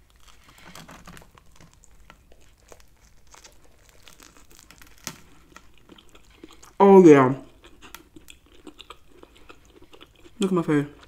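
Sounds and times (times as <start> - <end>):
crunching bread roll chewing: 0.0 - 6.8, 7.4 - 11.0.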